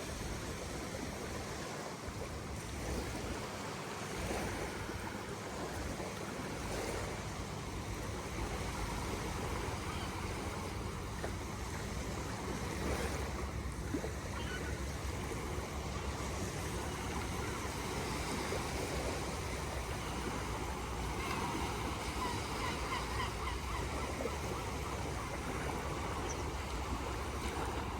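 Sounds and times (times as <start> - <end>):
sea surf: 0.0 - 27.9.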